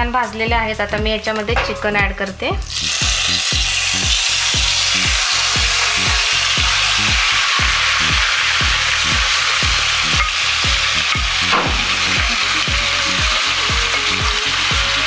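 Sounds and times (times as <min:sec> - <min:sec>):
background music with steady beat: 0:00.0 - 0:15.0
chicken sizzling in hot oil: 0:02.6 - 0:15.0.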